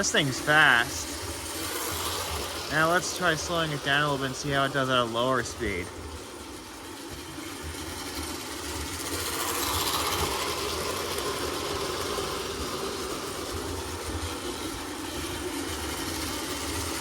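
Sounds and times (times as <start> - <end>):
toy train motor whirring: 0.0 - 17.0
toy train wheels clattering: 0.0 - 17.0.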